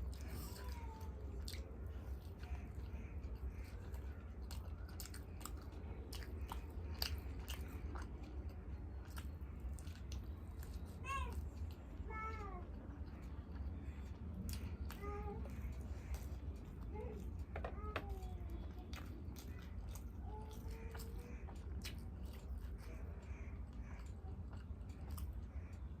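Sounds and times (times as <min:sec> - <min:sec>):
close chewing of food: 0:00.0 - 0:26.0
steady low hum: 0:00.0 - 0:26.0.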